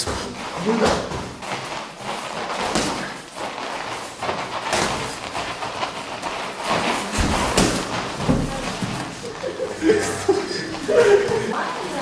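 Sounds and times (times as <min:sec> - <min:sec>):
feet scuffing on padded mat: 0:00.0 - 0:12.0.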